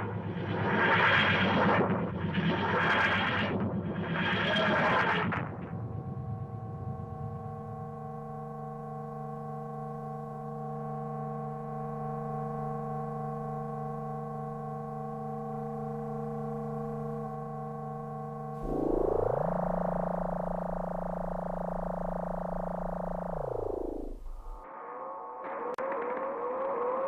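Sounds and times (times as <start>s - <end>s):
electronic drone: 0.0s - 27.0s.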